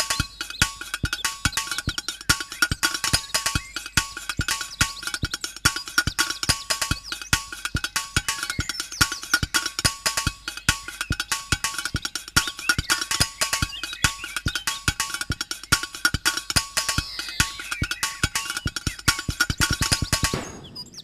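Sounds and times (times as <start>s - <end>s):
background music with fast percussion: 0.0s - 21.0s.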